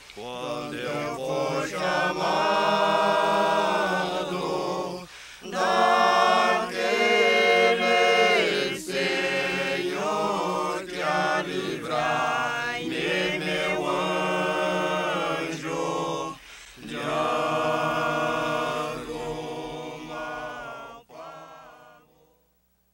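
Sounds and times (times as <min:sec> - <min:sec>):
unaccompanied choir singing: 0:00.2 - 0:22.5.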